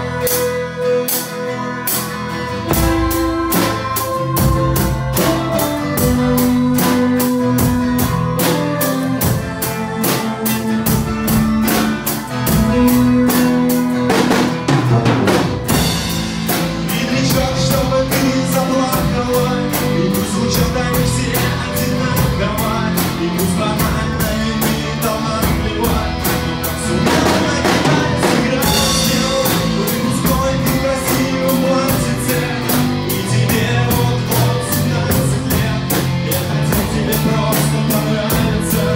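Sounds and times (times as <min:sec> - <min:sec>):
bass and guitar: 0:00.0 - 0:38.9
drum kit beat: 0:00.0 - 0:38.9.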